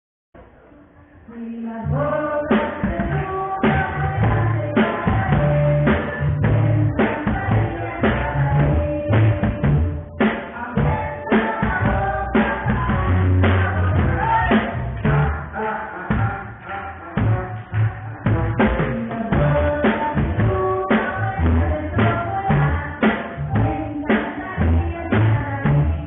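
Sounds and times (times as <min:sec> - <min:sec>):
drum kit beat: 0:02.5 - 0:26.0.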